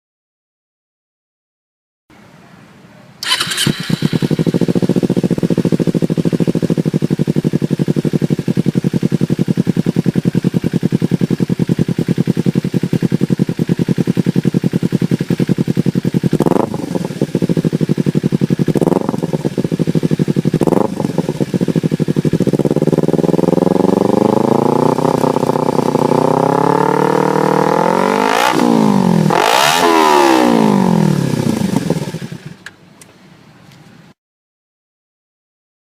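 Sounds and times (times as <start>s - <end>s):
motorcycle engine idling and revving: 3.2s - 32.8s.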